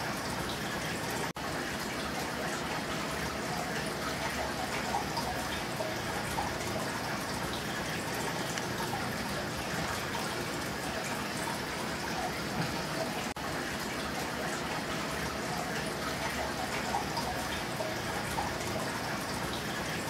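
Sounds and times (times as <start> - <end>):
aquarium water trickling: 0.0 - 20.0.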